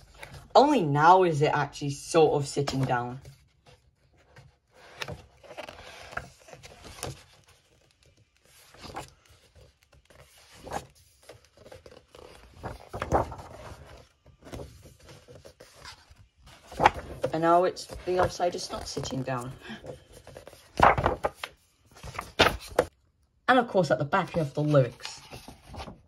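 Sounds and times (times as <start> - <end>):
book pages turning and rustling: 0.0 - 0.5, 2.5 - 23.0, 24.1 - 26.0.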